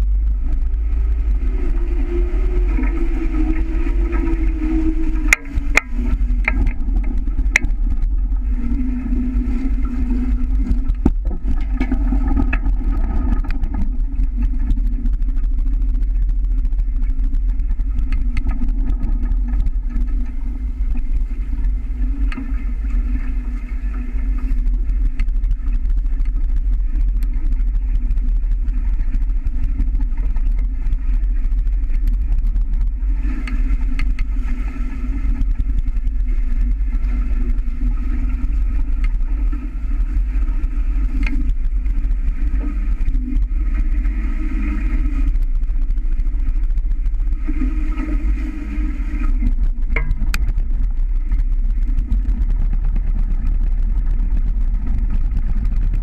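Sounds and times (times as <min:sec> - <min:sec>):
high hum: 0:00.0 - 0:56.0
water rushing along hulls: 0:00.0 - 0:56.0
wind buffeting microphone: 0:00.0 - 0:56.0.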